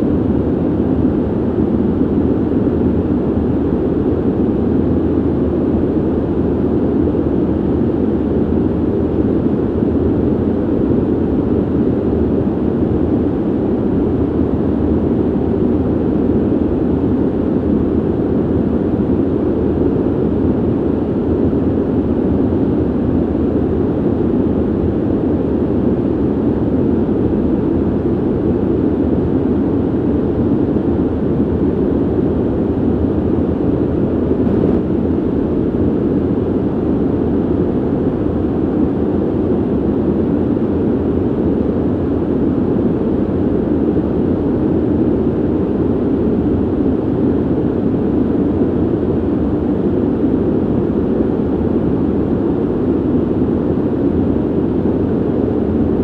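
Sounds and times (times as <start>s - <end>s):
ventilation air rushing: 0.0s - 56.0s.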